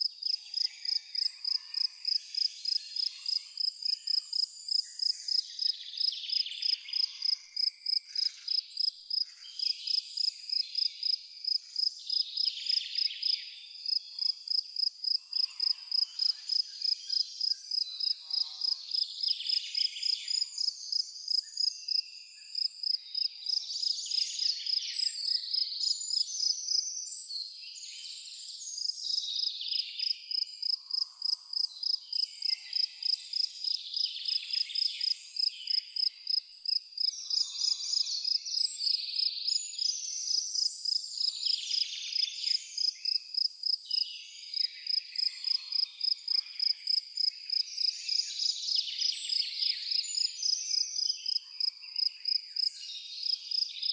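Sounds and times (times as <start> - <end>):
cricket-like insect chirping: 0.0 - 26.8, 28.8 - 44.0, 44.6 - 53.9
birds singing and calling: 0.0 - 53.9.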